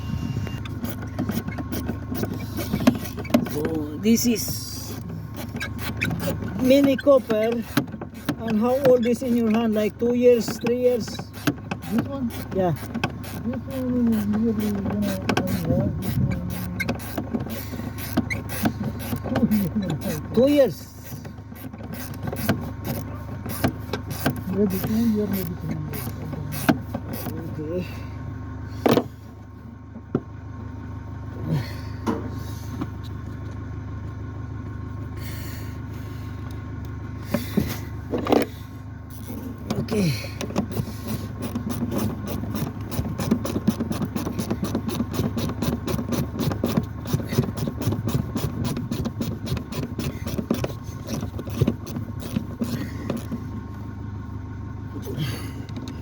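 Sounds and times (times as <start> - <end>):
car engine humming: 0.0 - 56.0.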